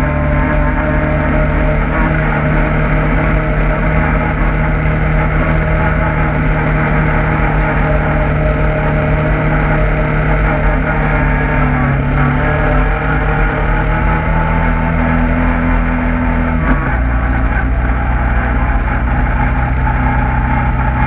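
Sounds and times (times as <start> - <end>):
off-road vehicle engine humming: 0.0 - 21.0.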